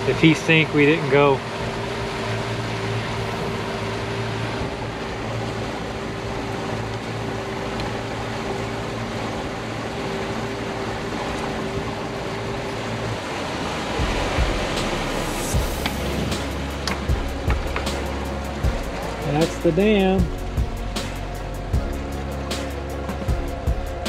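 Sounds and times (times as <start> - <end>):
outboard motor humming: 0.0 - 24.0
water and wind rushing past boat: 0.0 - 24.0.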